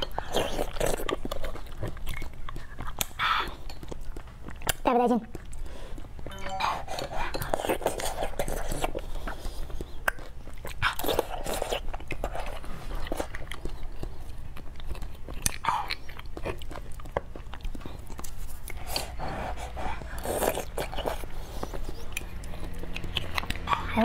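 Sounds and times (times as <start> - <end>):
wet chewing and lip smacks: 0.0 - 24.0.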